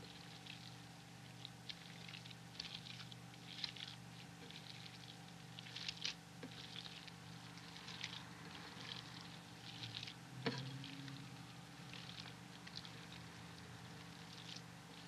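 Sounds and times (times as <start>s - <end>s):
faint hum: 0.0s - 15.0s
hands squishing raw meat: 0.0s - 15.0s.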